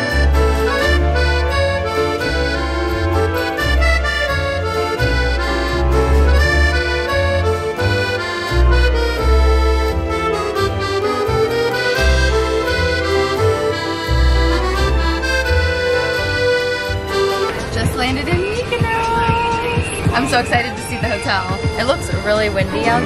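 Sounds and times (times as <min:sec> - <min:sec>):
melodic tones over pulsing bass: 0:00.0 - 0:23.0.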